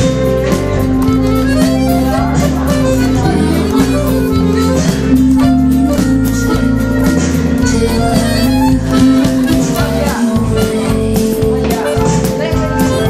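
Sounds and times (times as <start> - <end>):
dance music: 0.0 - 13.0.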